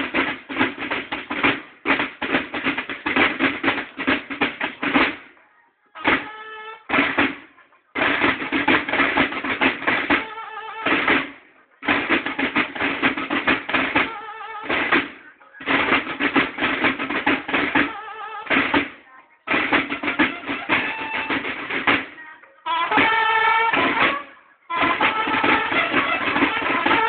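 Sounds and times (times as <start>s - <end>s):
bugles sounding held notes: 0.0s - 27.0s
field drums beating cadences: 0.0s - 27.0s.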